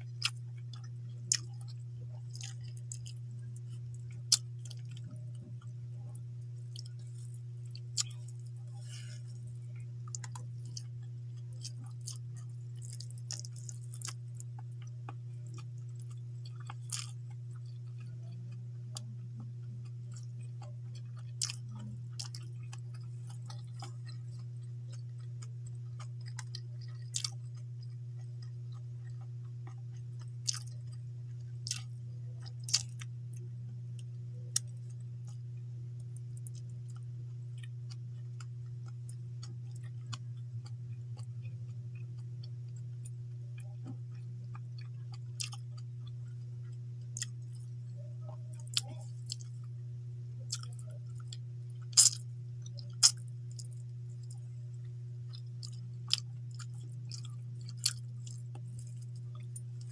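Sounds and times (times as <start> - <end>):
person chewing food: 0.0 - 49.8, 50.4 - 59.9
steady low hum: 0.0 - 59.9.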